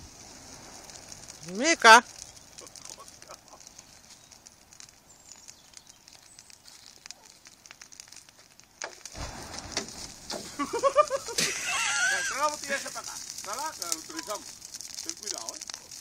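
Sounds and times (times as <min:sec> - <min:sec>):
fire crackling and popping: 0:00.0 - 0:16.0
light hiss: 0:00.0 - 0:16.0.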